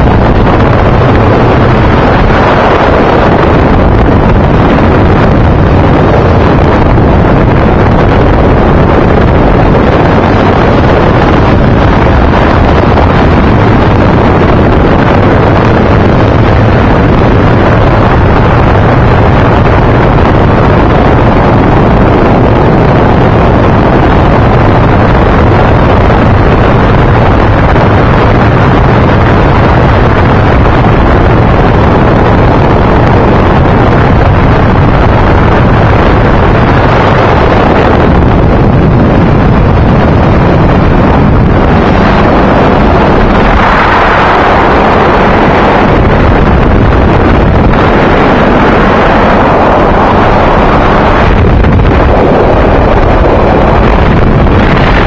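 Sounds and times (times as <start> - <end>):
aircraft engine drone: 0.0 - 55.0
wind rushing on microphone: 0.0 - 55.0.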